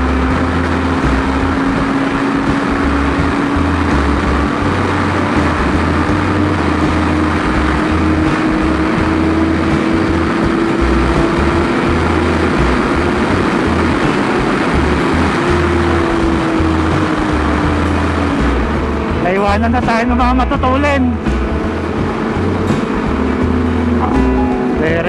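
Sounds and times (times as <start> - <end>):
motorcycle engine cruising: 0.0 - 25.0
wind buffeting microphone: 0.0 - 25.0.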